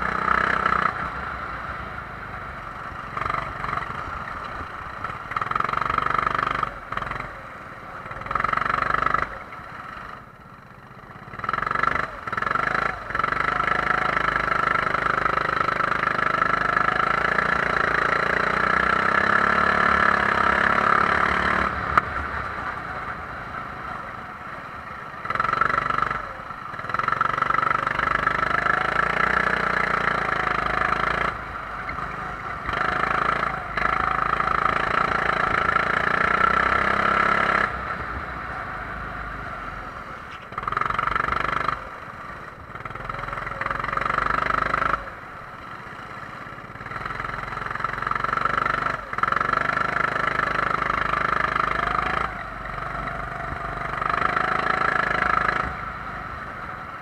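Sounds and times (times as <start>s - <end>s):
kart engine at full throttle: 0.0s - 57.0s.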